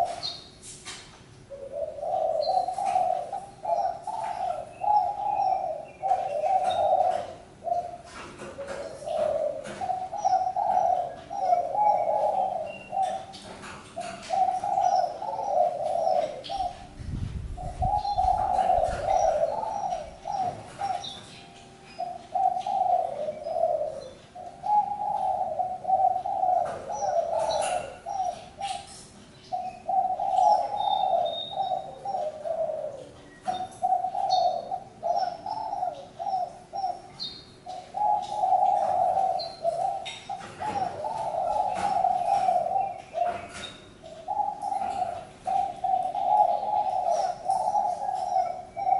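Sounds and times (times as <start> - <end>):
dove cooing: 0.0 - 0.4, 1.4 - 48.9.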